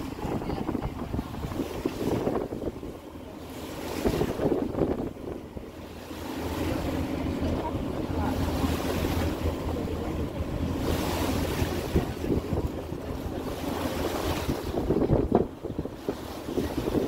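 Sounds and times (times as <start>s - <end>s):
wind gusts on microphone: 0.0s - 3.0s, 3.6s - 5.8s, 7.7s - 17.0s
ferry engine droning: 0.0s - 17.0s
water rushing past hull: 0.0s - 17.0s.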